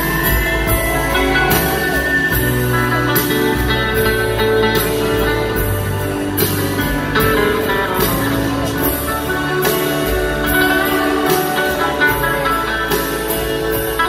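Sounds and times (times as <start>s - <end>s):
guitar: 0.0s - 14.0s
live band playing country ballad: 0.0s - 14.0s.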